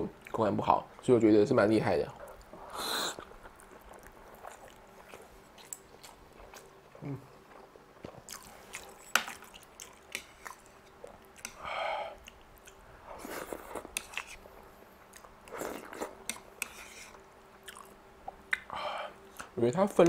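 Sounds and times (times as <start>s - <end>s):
person chewing noodles: 2.2s - 19.5s.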